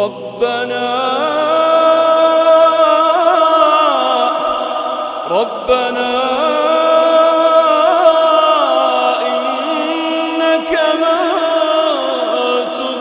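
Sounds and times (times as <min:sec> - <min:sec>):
person chanting recitation: 0:00.0 - 0:13.0.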